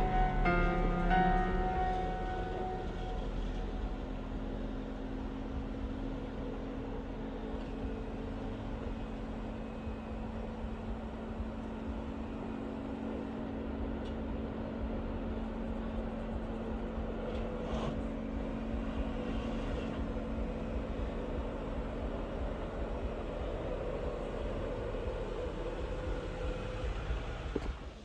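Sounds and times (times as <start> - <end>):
off-road vehicle engine droning: 0.0 - 28.0.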